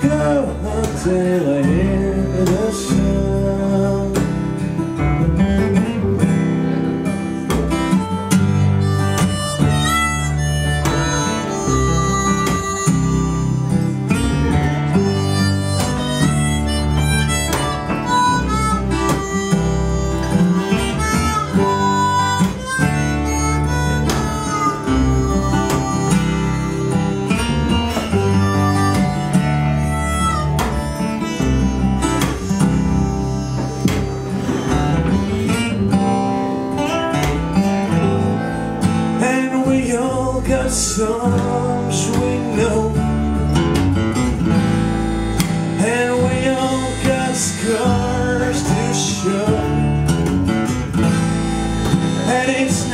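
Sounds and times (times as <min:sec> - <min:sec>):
double bass: 0:00.0 - 0:52.9
strummed acoustic guitar: 0:00.0 - 0:52.9
harmonica solo: 0:08.1 - 0:38.8, 0:40.9 - 0:52.9.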